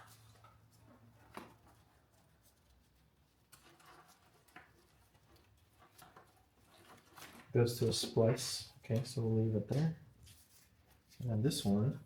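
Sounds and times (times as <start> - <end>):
wiring clicks and rustles: 0.0 - 11.4.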